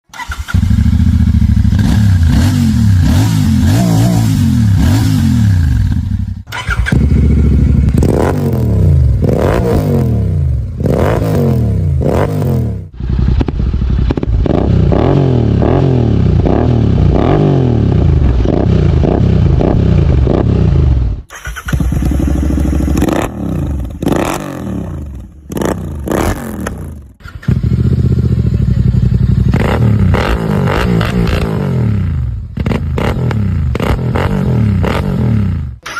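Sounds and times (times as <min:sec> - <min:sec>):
motorcycle engine revving: 0:00.1 - 0:35.9.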